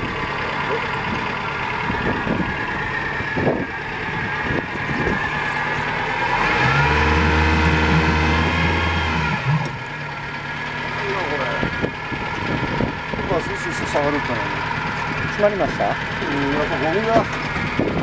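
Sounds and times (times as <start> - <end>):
outboard motor idling: 0.0 - 18.0.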